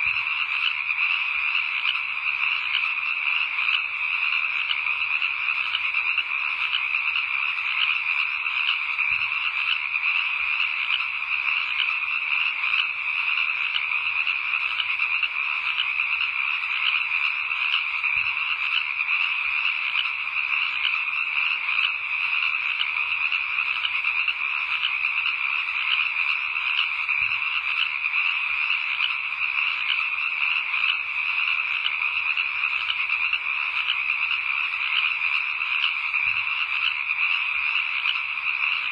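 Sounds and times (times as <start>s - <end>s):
chorus of frogs trilling: 0.0s - 38.9s.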